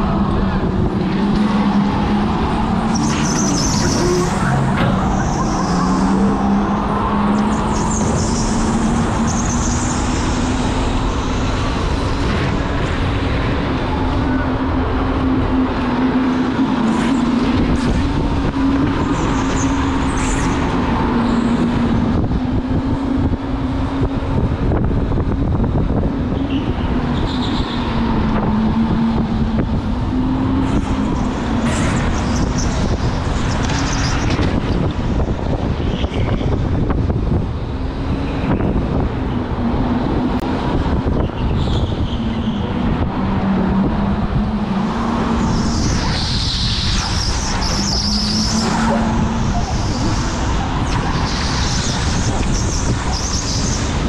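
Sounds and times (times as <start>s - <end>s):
constant rumble: 0.0s - 54.0s.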